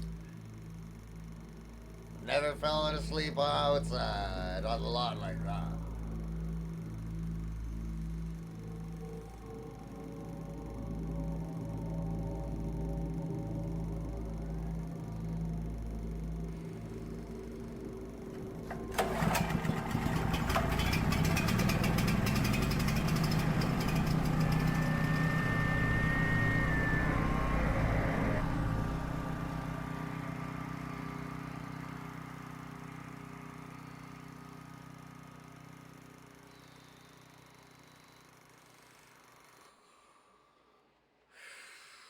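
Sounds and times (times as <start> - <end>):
engine starting and running: 0.0 - 40.3.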